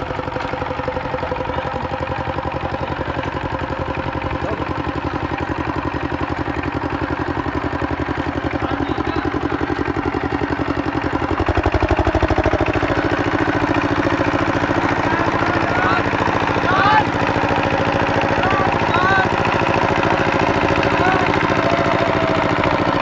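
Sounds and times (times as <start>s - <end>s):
diesel tractor engine thudding: 0.0s - 23.0s
wheels working through wet mud: 0.0s - 23.0s.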